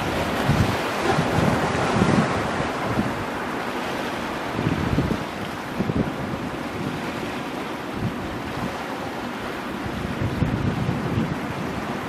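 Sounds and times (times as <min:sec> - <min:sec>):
waves breaking on rocks: 0:00.0 - 0:12.0
wind buffeting microphone: 0:00.0 - 0:12.0.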